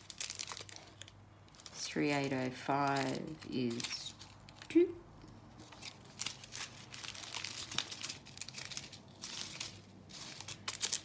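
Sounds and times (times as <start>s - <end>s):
small plastic bags crinkling: 0.0s - 11.0s.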